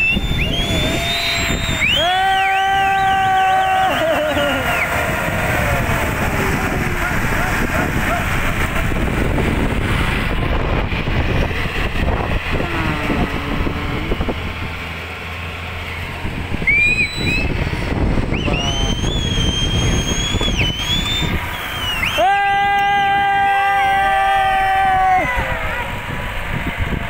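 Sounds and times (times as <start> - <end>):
wind on microphone: 0.0 - 15.0, 16.0 - 27.0
shrill drawn-out tones: 0.0 - 26.9
truck engines crawling: 0.0 - 27.0.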